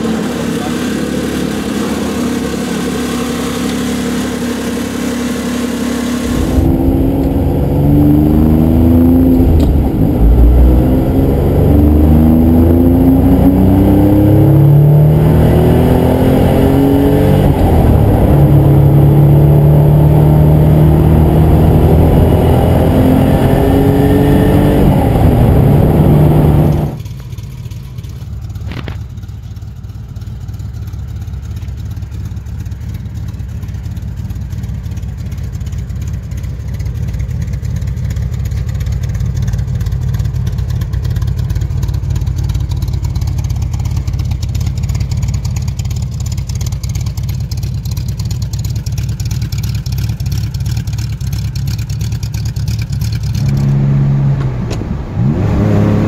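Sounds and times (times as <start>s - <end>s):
car engine accelerating: 0.0s - 37.2s, 38.1s - 56.0s
car engine at low revs: 0.0s - 56.0s.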